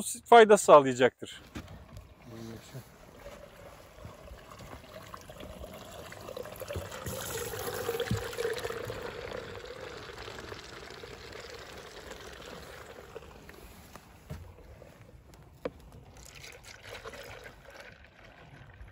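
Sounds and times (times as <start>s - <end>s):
liquid pouring into plastic tank: 1.6s - 14.8s, 15.8s - 18.9s.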